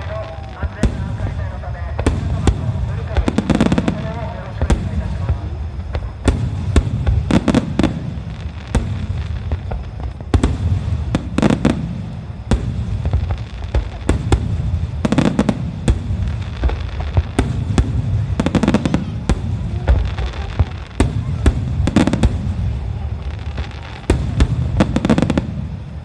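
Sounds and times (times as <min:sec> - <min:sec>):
fireworks bangs: 0:00.0 - 0:26.0
low rumble of explosions: 0:00.0 - 0:26.0.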